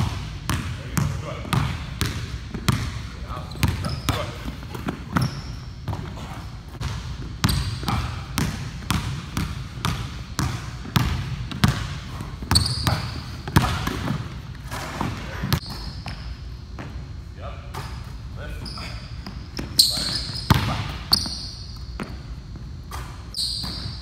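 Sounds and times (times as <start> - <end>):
basketball bouncing on wooden floor: 0.0 - 16.2, 19.2 - 24.0
sneakers squeaking on floor: 0.5 - 24.0.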